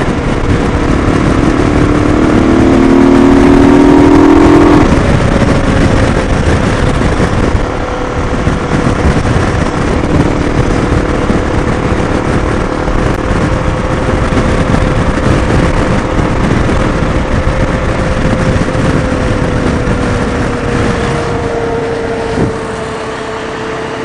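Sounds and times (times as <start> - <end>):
motorcycle engine drone: 0.0 - 24.0
wind rush and road noise: 0.0 - 24.0.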